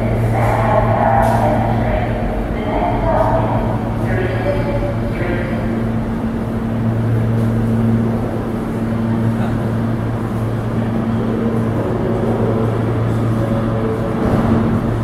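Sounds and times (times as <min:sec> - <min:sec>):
subway train equipment humming: 0:00.0 - 0:15.0.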